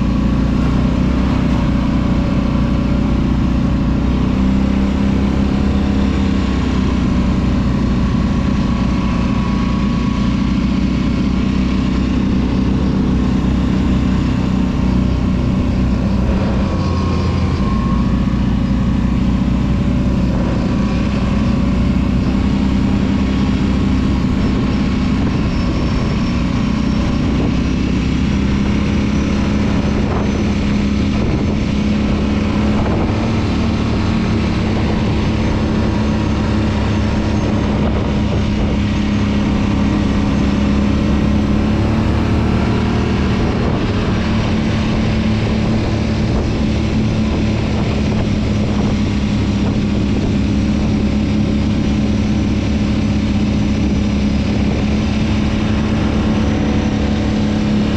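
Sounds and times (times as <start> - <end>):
atv engine running: 0.0 - 57.9.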